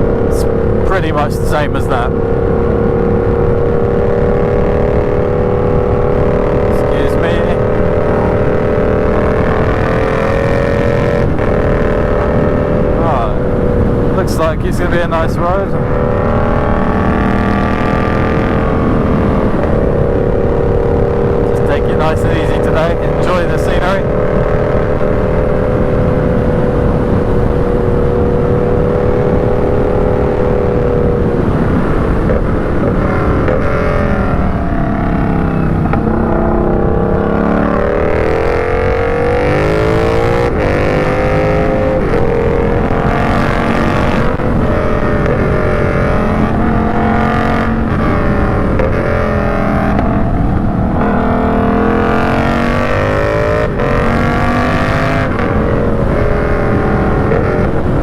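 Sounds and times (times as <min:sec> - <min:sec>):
motorcycle engine revving: 0:00.0 - 0:58.0
wind rush over helmet: 0:01.6 - 0:58.0.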